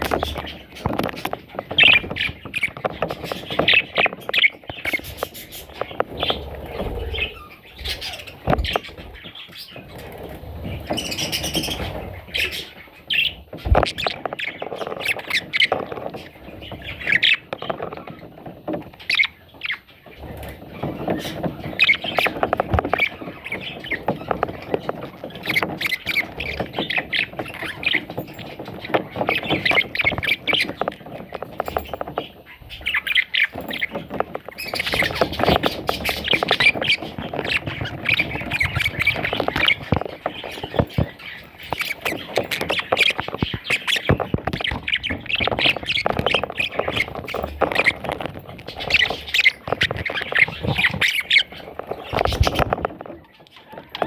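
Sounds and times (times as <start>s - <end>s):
budgerigar chicks squawking: 0.0s - 54.0s.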